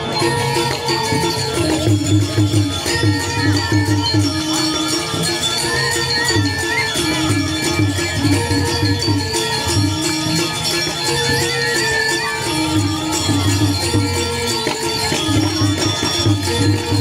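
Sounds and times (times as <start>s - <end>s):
gamelan music: 0.0s - 17.0s
jingling cymbals: 0.0s - 17.0s.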